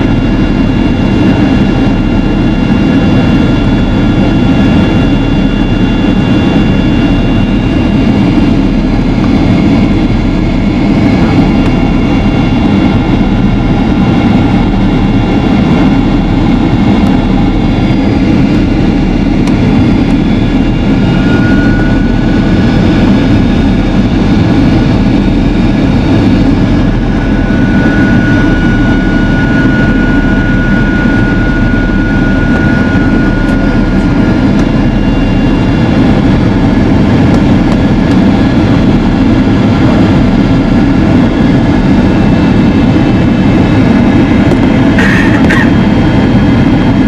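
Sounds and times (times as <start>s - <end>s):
faint high whine: 0.0s - 47.0s
jet engine cabin rumble: 0.0s - 47.0s.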